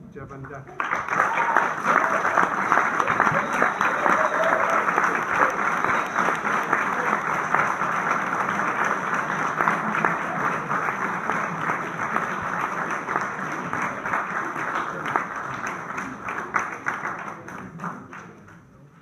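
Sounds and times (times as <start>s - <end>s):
audience applauding: 0.7s - 18.7s.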